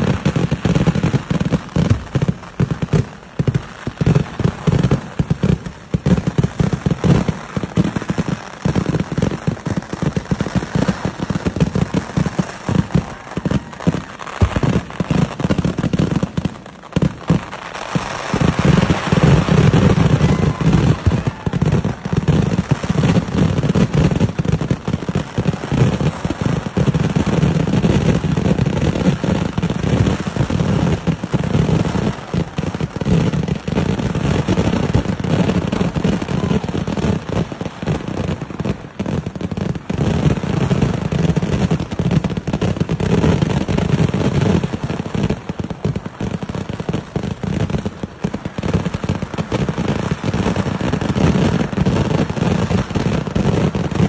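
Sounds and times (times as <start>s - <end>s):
firework bangs and crackling: 0.0s - 54.0s.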